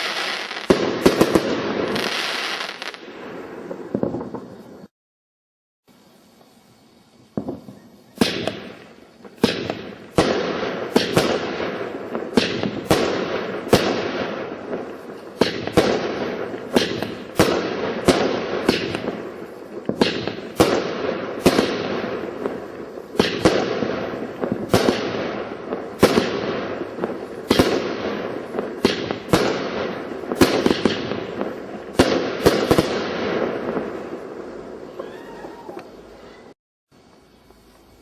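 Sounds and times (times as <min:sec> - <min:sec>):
fireworks bangs with rumble: 0:00.0 - 0:04.9, 0:07.3 - 0:36.0.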